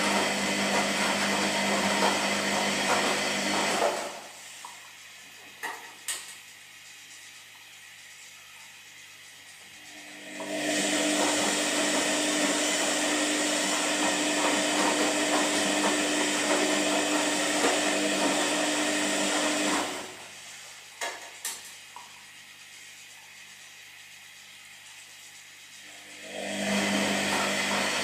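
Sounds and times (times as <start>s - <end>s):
washing machine whirring: 0.0s - 28.0s.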